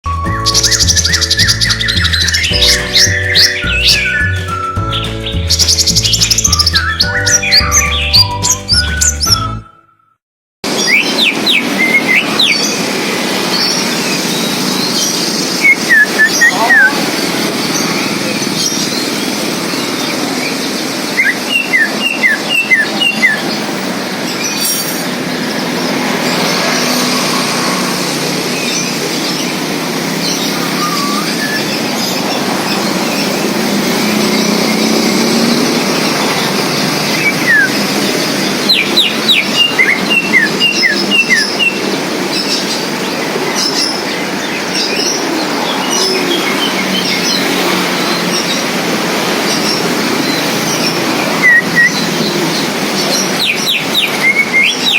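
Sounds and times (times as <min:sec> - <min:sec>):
bird chirping rapidly: 0:00.1 - 0:09.8, 0:10.7 - 0:54.9
steady rushing noise: 0:10.6 - 0:54.9.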